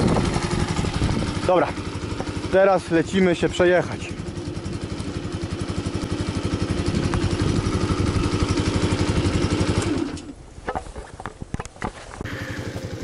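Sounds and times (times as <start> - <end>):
motorcycle engine idling: 0.0 - 10.2, 12.2 - 13.0.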